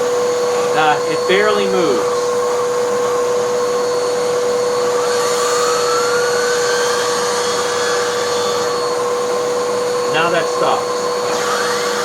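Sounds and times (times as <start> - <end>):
vacuum cleaner whining: 0.0 - 12.0.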